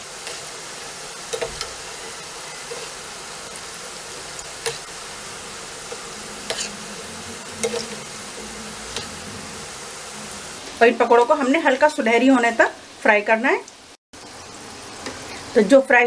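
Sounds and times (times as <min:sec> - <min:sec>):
fritters sizzling in hot oil: 0:00.0 - 0:16.0.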